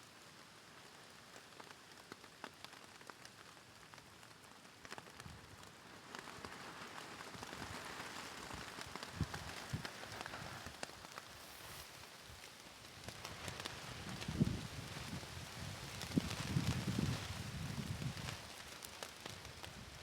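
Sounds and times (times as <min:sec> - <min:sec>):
rain on a plastic sheet: 0:00.0 - 0:20.0.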